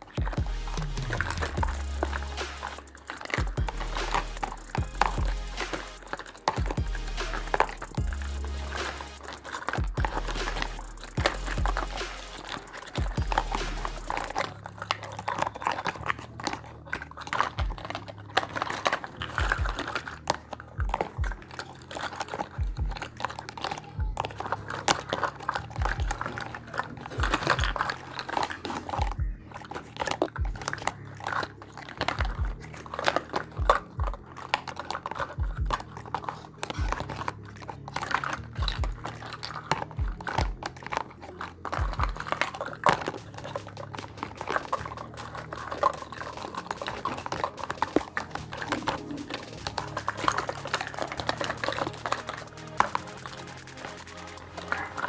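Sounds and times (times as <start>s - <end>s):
soft background music: 0.0s - 55.0s
toy pieces tapping and clicking: 0.0s - 55.0s.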